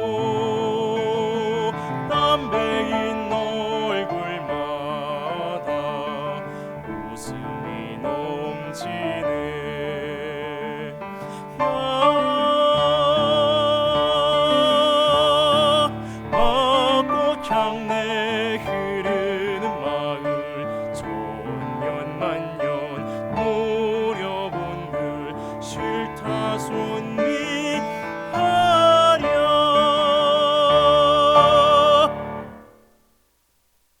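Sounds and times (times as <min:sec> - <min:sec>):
baritone singing: 0:00.0 - 0:32.8
piano accompaniment: 0:00.0 - 0:33.0.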